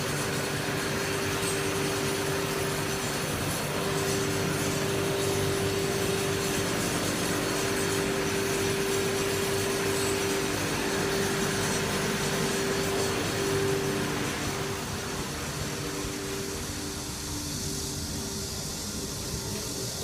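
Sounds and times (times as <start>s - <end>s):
boiler plant machinery drone: 0.0s - 20.0s
constant hum tone: 0.0s - 20.0s.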